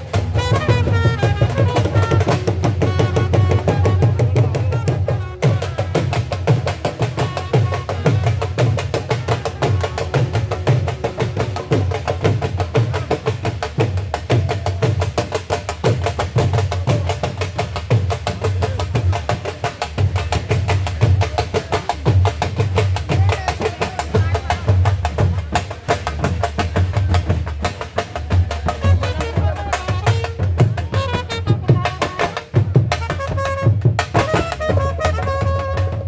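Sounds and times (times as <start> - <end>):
dhol drumming: 0.0 - 36.0.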